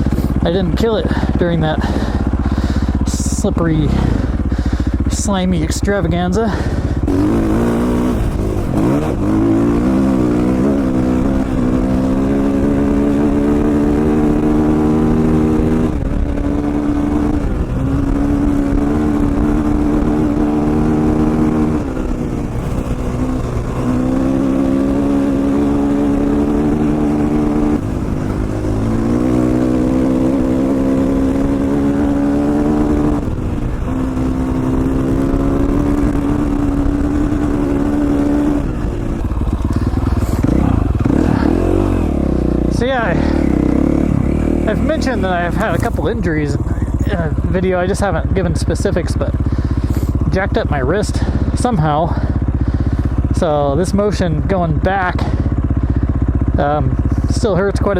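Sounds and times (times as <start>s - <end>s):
motorcycle engine under load: 0.0s - 57.9s.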